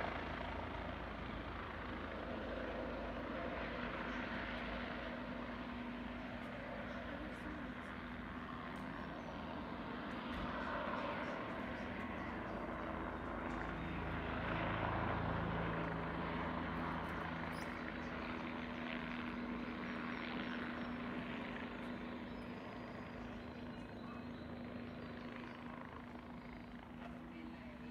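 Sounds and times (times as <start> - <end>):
helicopter flying over: 0.0 - 27.9.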